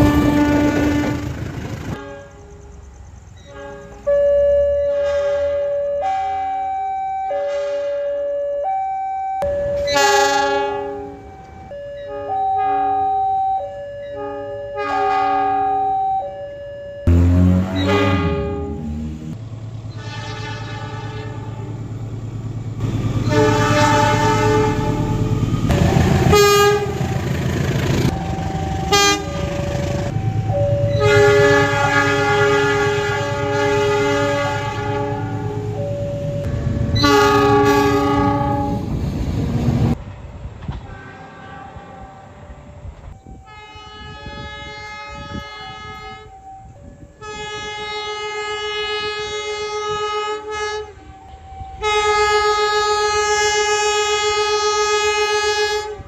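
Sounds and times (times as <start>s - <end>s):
locomotive horn blasts: 0.0s - 2.8s, 3.4s - 4.2s, 4.8s - 6.7s, 7.3s - 8.2s, 9.4s - 11.3s, 12.0s - 16.0s, 17.0s - 19.2s, 19.9s - 21.8s, 22.8s - 27.1s, 28.1s - 30.2s, 30.8s - 38.9s, 40.8s - 42.6s, 43.2s - 56.0s
train rumble: 0.0s - 6.6s, 17.1s - 56.0s.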